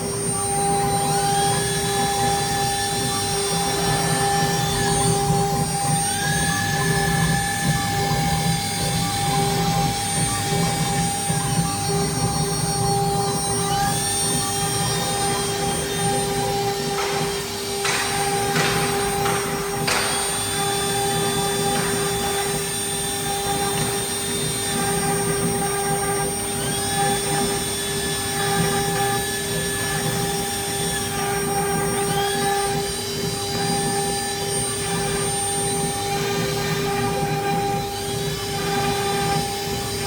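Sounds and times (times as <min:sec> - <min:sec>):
router spindle whine: 0:00.0 - 0:40.0.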